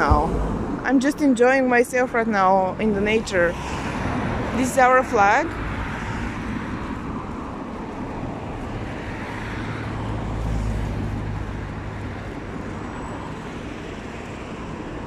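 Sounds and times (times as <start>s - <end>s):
road traffic: 0.0s - 15.0s
vehicle passing rumble: 0.0s - 15.0s.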